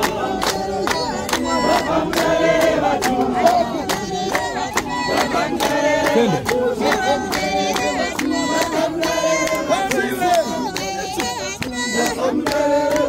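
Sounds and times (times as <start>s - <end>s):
congregation singing a hymn: 0.0s - 13.0s
sharp hand claps: 0.0s - 13.0s.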